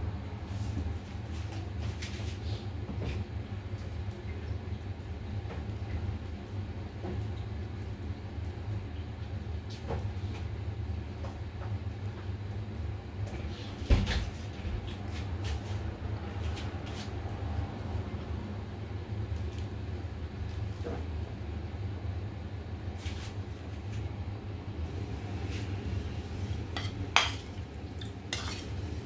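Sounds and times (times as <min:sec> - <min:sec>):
gas burner rumbling: 0:00.0 - 0:29.0.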